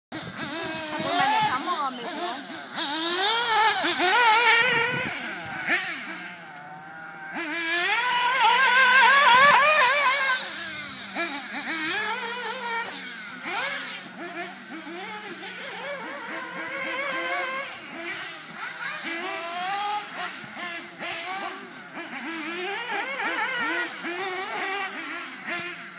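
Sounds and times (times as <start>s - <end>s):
rc buggy engines revving: 0.1s - 25.9s.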